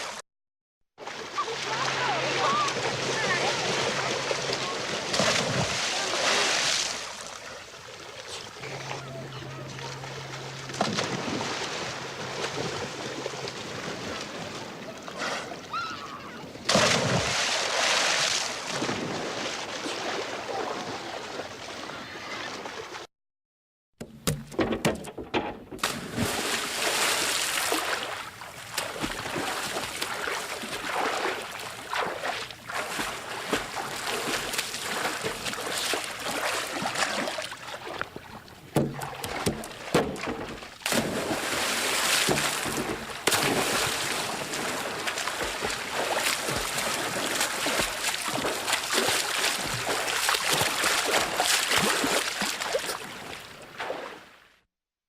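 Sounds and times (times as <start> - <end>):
swimming strokes splashing water: 1.0 - 15.9, 16.5 - 23.0, 25.8 - 54.4.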